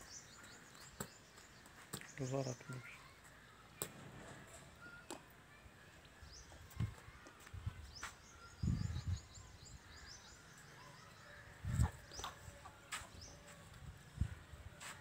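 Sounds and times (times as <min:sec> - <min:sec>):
small birds chirping: 0:00.0 - 0:04.0, 0:06.1 - 0:14.4.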